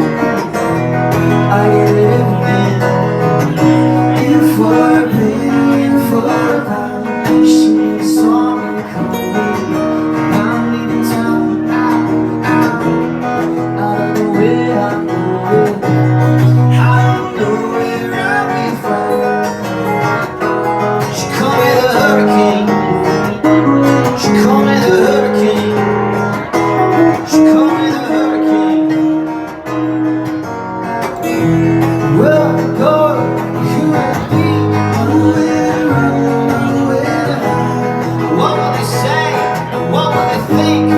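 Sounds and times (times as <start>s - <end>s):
acoustic guitar: 0.0s - 40.9s.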